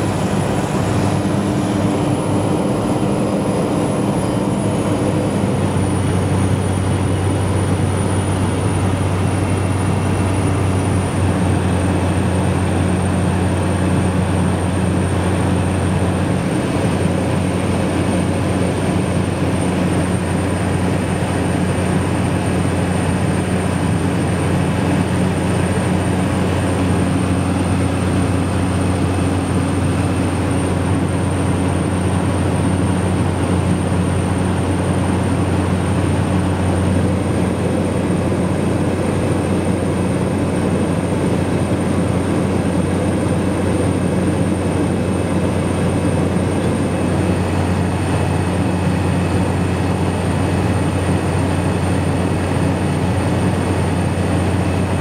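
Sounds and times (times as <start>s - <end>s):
plane engine drone in cabin: 0.0s - 55.0s.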